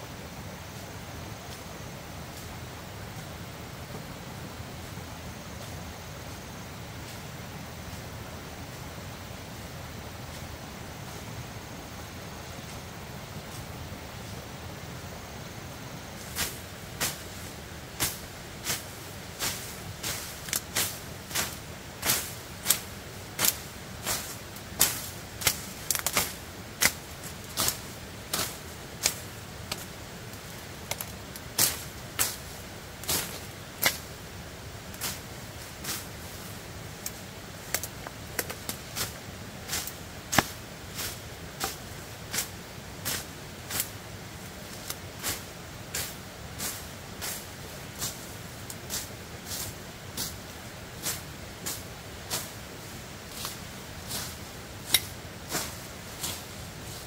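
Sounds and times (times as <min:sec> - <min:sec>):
low steady hiss: 0:00.0 - 0:57.0.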